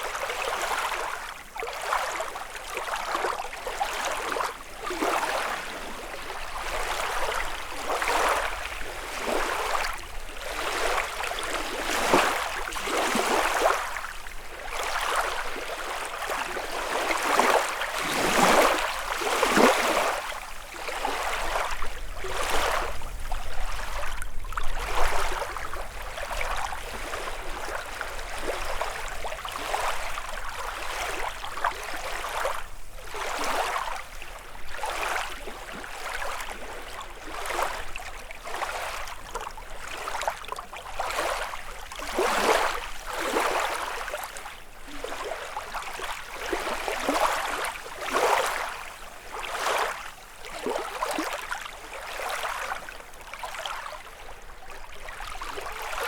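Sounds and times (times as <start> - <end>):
waves lapping on shore: 0.0 - 56.0.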